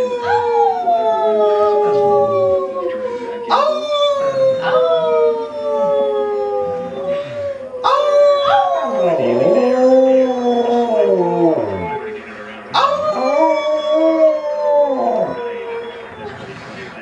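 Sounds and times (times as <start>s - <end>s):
husky howling: 0.0s - 16.4s.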